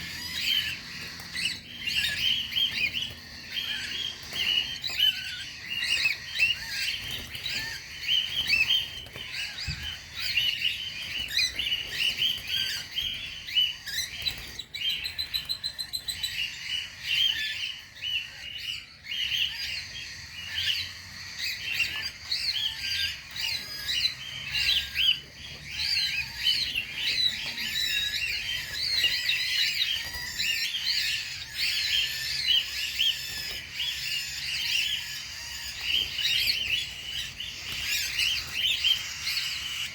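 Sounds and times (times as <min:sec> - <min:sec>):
cockatiels chirping and calling: 0:00.0 - 0:39.9.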